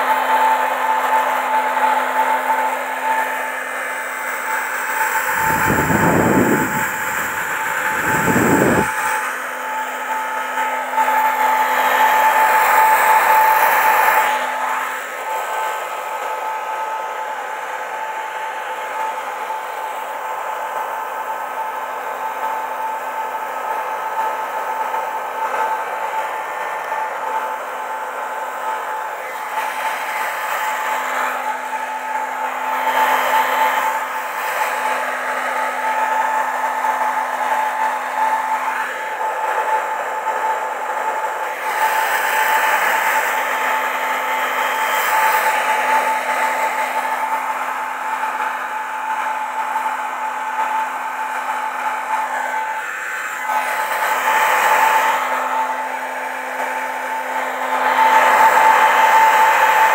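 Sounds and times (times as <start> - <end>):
electric fan whining: 0.0 - 59.9.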